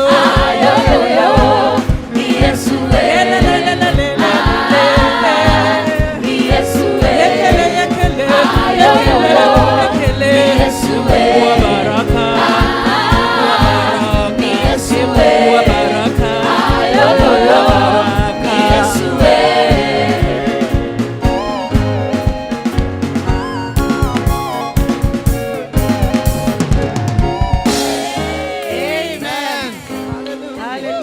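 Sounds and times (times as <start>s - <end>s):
choir singing praise song: 0.0s - 21.8s, 27.2s - 31.0s
band with drum and bass beat: 0.0s - 31.0s.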